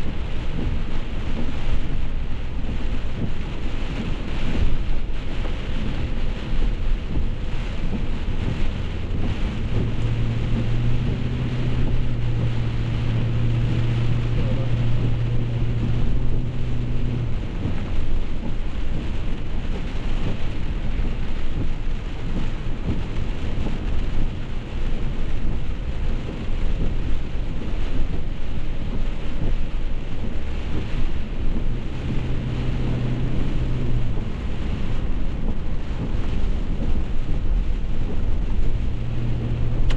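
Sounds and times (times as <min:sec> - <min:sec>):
constant low rumble: 0:00.0 - 0:39.9
heavy rain falling: 0:00.0 - 0:39.9.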